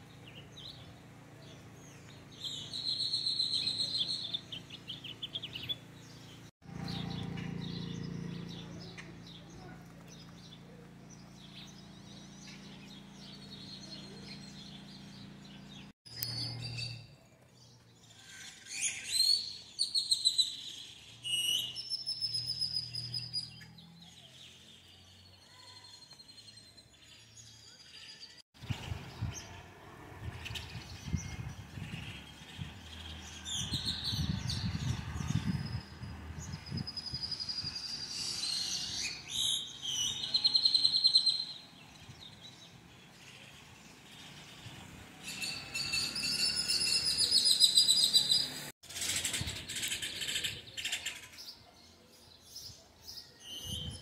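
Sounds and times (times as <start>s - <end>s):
birds chirping and singing: 0.0s - 29.6s, 30.2s - 54.0s.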